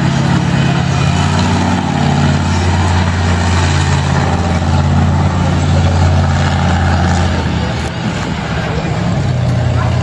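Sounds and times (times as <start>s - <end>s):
truck engine deep rumble: 0.0s - 10.0s.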